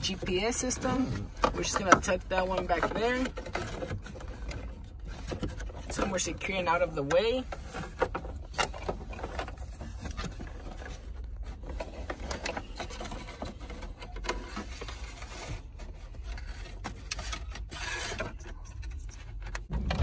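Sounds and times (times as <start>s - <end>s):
cables scraping and rustling: 0.0s - 19.8s.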